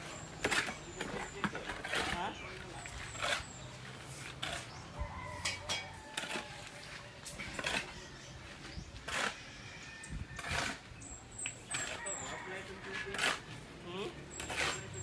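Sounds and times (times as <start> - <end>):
construction knocks and scrapes: 0.0 - 9.4, 10.4 - 15.0.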